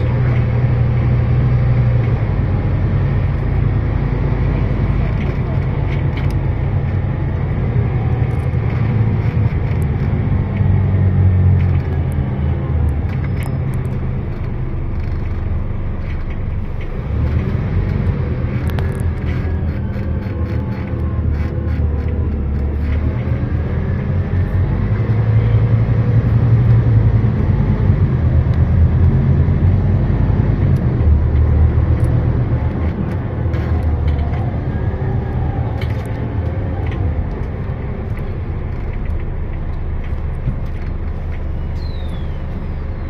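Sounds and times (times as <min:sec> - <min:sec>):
bus engine rumble: 0:00.0 - 0:43.0.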